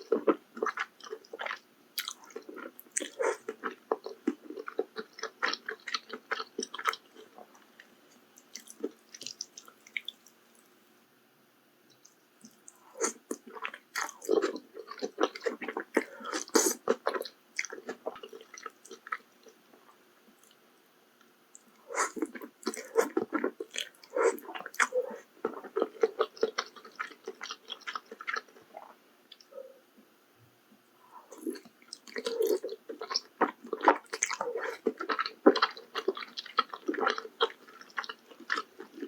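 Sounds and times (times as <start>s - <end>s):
close chewing with wet mouth clicks: 0.0s - 7.7s, 8.4s - 10.4s, 11.9s - 19.6s, 21.6s - 29.5s, 31.3s - 39.0s.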